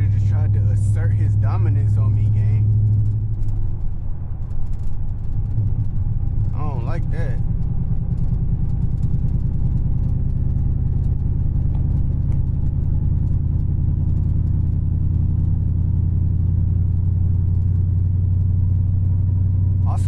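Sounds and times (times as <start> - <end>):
car engine droning at cruise: 0.0 - 20.0
tyre and road noise: 0.0 - 20.0.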